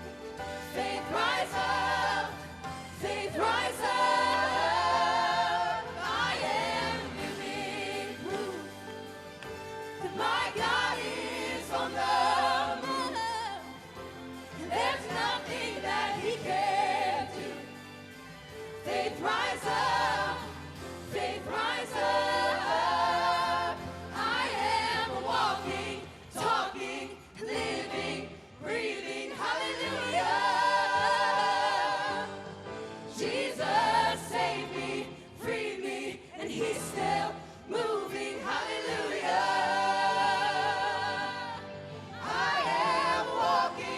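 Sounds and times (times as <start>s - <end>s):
band playing gospel music: 0.0s - 43.9s
choir singing: 0.0s - 43.9s.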